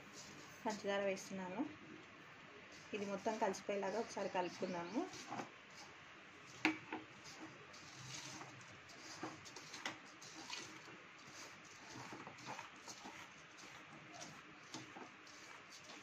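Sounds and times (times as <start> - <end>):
hand mixing flour in a bowl: 0.0 - 1.7, 2.7 - 16.0.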